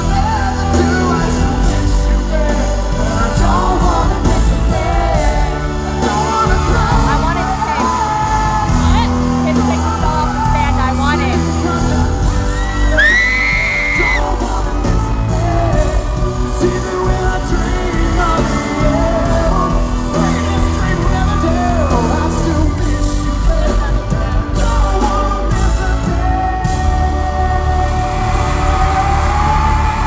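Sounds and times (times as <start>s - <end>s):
live rock band: 0.0s - 30.0s
man singing: 0.0s - 30.0s.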